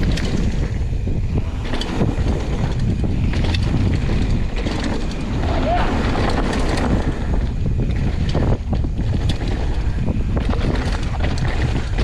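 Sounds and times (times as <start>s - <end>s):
bike rattling over bumps: 0.0s - 12.0s
tyres rolling over dirt and stones: 0.0s - 12.0s
wind rushing over microphone: 0.0s - 12.0s.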